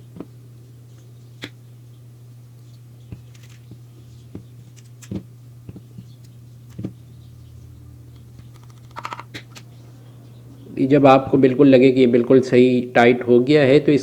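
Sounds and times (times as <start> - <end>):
compressor low hum: 0.0 - 14.0.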